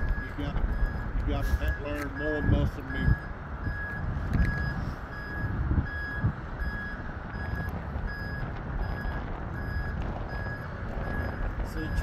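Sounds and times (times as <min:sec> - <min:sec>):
truck backup alarm beeping: 0:00.0 - 0:12.0.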